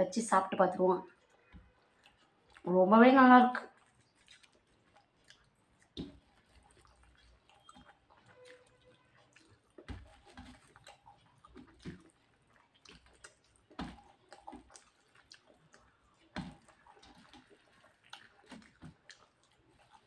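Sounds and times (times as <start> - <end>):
person chewing: 1.1 - 2.7, 3.6 - 20.0.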